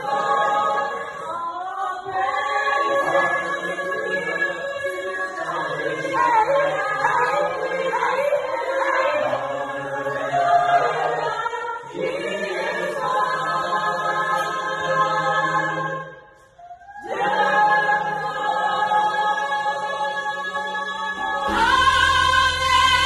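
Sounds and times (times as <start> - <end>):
choir-like sung chords: 0.0 - 23.0.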